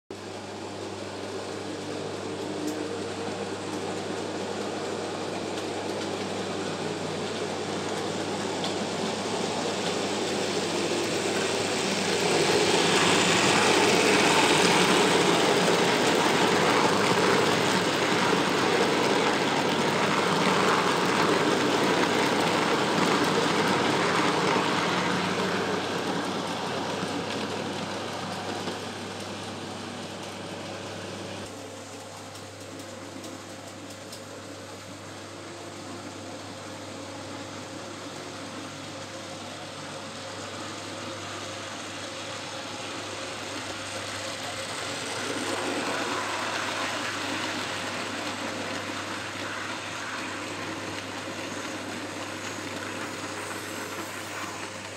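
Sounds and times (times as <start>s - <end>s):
model train wheels on rails: 0.2s - 54.9s.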